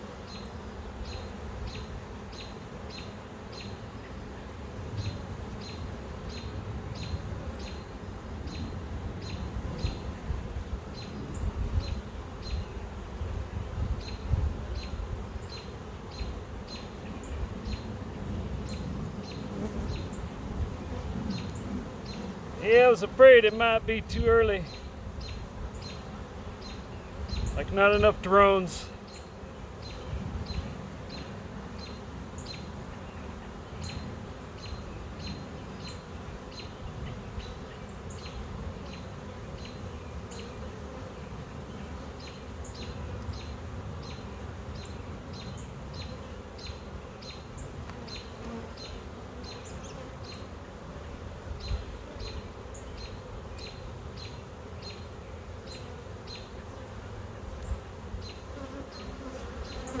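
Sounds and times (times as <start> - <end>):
honey bees buzzing: 0.0 - 60.0.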